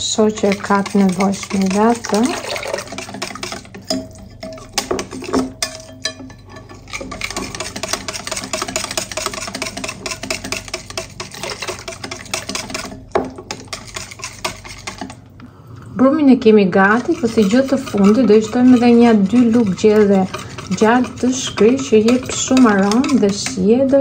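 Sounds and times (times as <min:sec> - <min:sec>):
whisk clattering in a bowl: 0:00.1 - 0:15.2, 0:16.8 - 0:24.0
whisk knocking on bowl: 0:00.3 - 0:15.2, 0:16.8 - 0:24.0.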